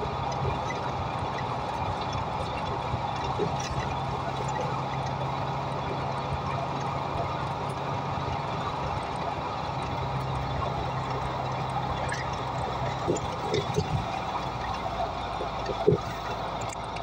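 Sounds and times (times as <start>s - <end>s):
bus low hum: 0.0s - 17.0s.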